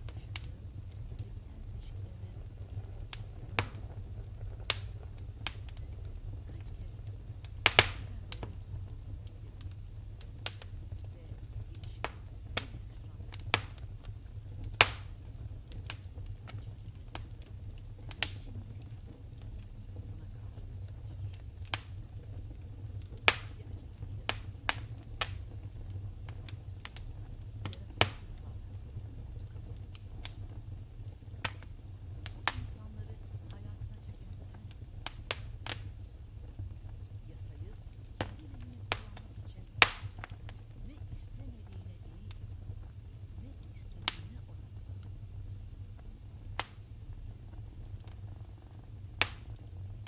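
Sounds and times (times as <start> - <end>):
fire popping: 0.0 - 50.0
steady low rumble: 0.0 - 50.0
wood fire crackling: 0.0 - 50.0.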